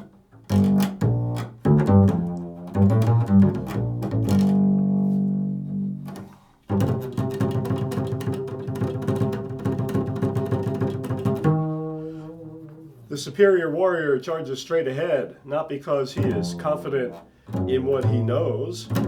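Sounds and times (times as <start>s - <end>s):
low string instrument playing: 0.0s - 13.2s, 16.2s - 19.0s.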